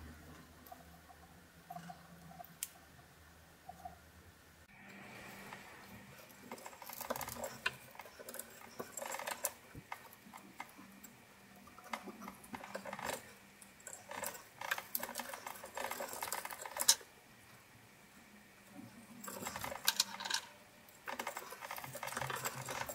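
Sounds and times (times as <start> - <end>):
small clicks and scrapes: 0.3 - 4.0, 5.3 - 17.6, 18.6 - 22.9.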